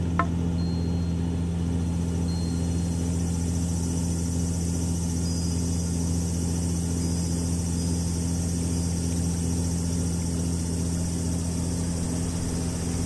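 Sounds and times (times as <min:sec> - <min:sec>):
low electronic drone: 0:00.0 - 0:13.0.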